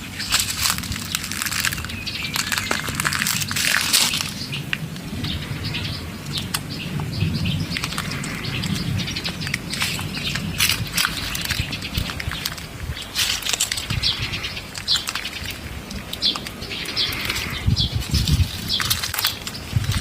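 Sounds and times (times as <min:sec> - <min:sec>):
bird chirping: 0:00.0 - 0:20.0
scratchy clicks and rustles: 0:00.0 - 0:20.0.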